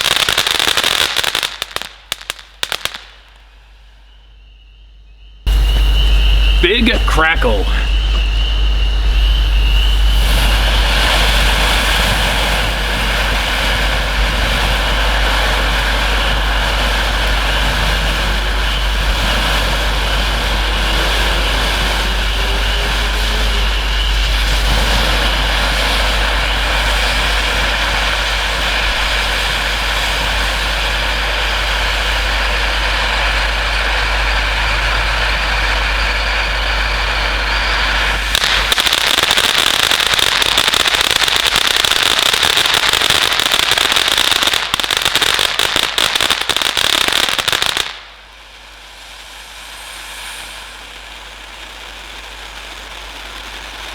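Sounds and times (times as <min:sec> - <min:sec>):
firework fountain hissing: 0:00.0 - 0:04.6, 0:05.4 - 0:53.9.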